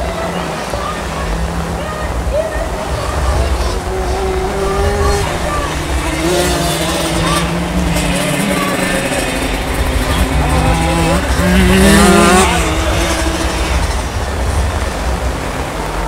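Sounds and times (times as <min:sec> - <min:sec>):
moped engines revving: 0:00.0 - 0:16.0.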